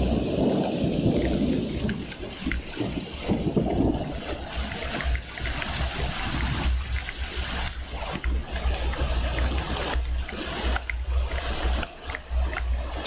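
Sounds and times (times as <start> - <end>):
low thunder rumble: 0.0 - 11.8
drips ticking: 0.0 - 13.0
heavy rain pouring: 0.0 - 13.0.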